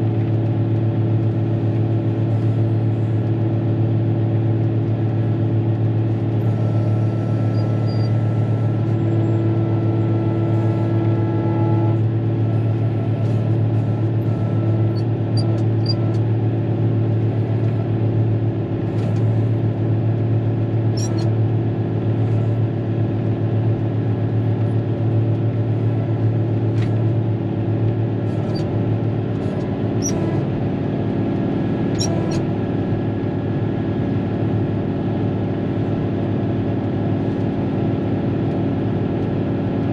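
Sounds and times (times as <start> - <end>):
diesel engine running: 0.0 - 39.9
high engine whine: 0.0 - 39.9.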